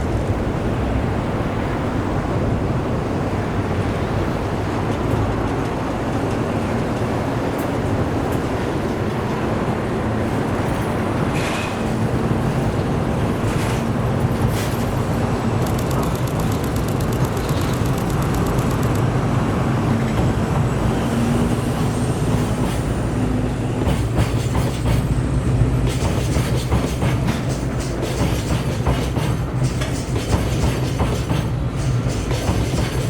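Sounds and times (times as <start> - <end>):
train rumbling by: 0.0 - 33.0.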